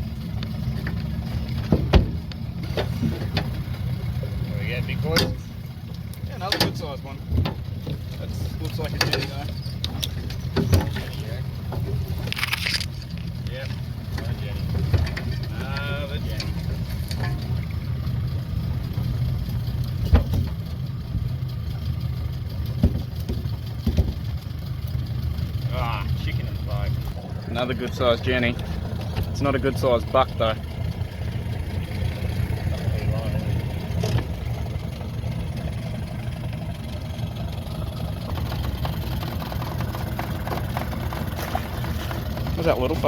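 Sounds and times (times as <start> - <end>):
boat motor idling: 0.0 - 43.0.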